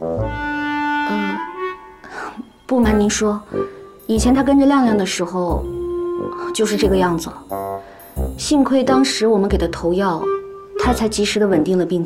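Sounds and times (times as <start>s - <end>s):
drama score melody: 0.0s - 11.8s.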